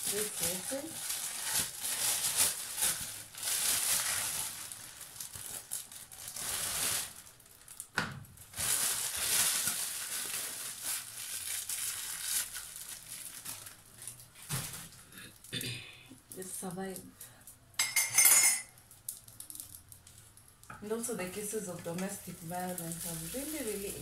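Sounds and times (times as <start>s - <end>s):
plastic bag crinkling: 0.0s - 15.5s, 18.9s - 24.0s.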